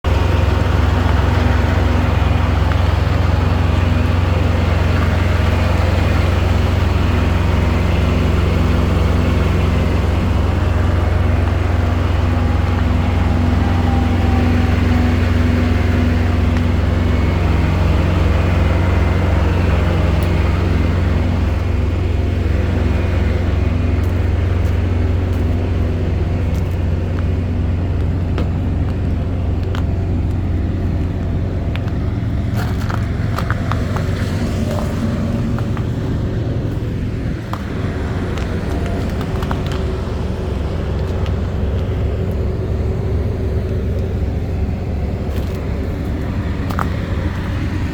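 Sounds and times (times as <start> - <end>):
road noise: 0.0 - 47.9
truck diesel engine drone: 0.0 - 47.9.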